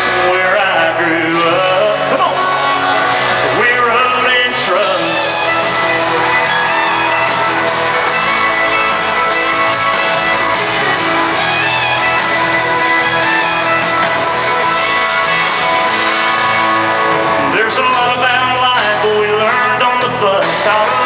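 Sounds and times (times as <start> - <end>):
country band playing live: 0.0 - 21.0.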